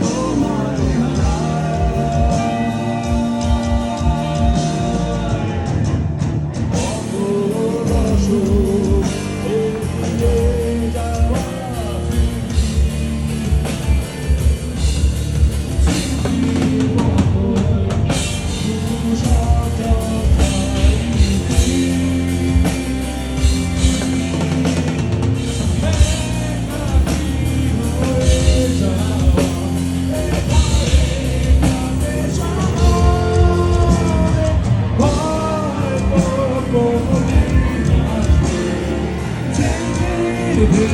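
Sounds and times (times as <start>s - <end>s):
person singing: 0.0s - 5.9s, 6.7s - 14.4s, 15.8s - 40.9s
bass guitar: 0.0s - 40.9s
drum kit: 0.0s - 40.9s
electric guitars: 0.0s - 40.9s.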